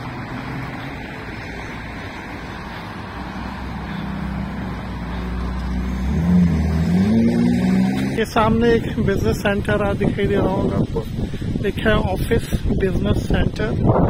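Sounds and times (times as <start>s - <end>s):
car engine hum: 0.0s - 12.8s.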